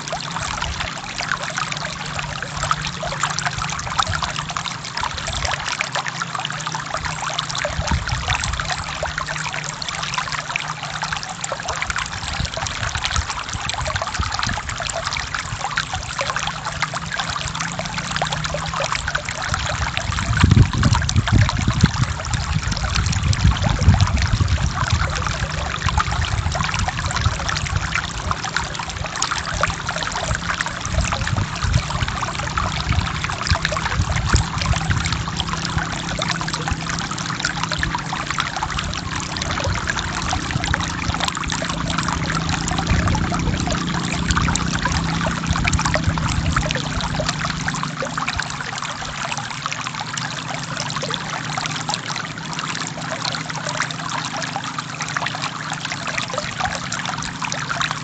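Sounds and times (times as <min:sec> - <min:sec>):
river water splashing over rocks: 0:00.0 - 0:58.0.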